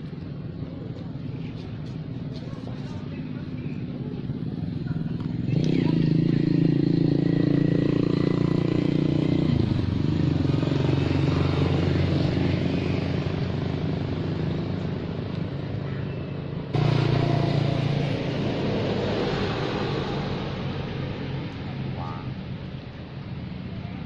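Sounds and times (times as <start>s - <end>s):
steady engine hum: 0.0s - 24.0s.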